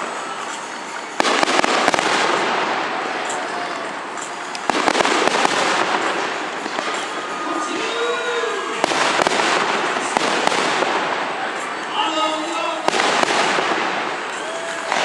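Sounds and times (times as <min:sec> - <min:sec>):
fireworks bursts: 0:00.0 - 0:15.0
fireworks crackle: 0:00.0 - 0:15.0.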